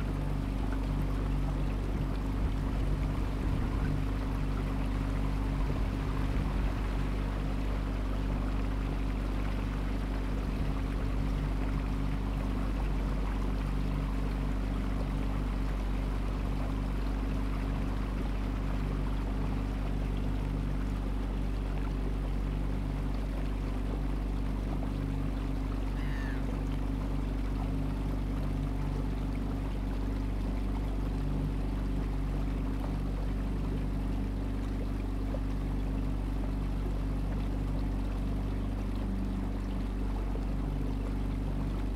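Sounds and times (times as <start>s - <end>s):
boat engine humming: 0.0s - 41.9s
water rushing past hull: 0.0s - 41.9s.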